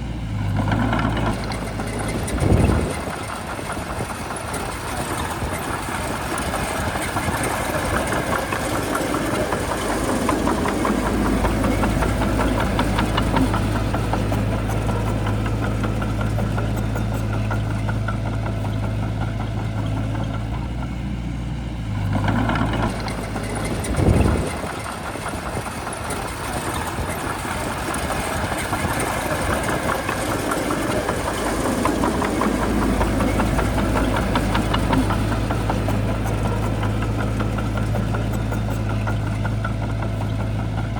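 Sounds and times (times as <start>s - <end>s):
bulldozer diesel engine rattling: 0.0s - 40.9s.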